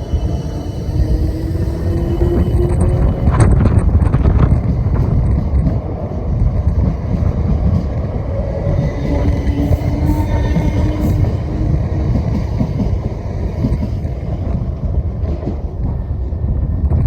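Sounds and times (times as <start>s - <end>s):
passing train rumble: 0.0s - 17.0s
wind buffeting microphone: 0.0s - 17.0s.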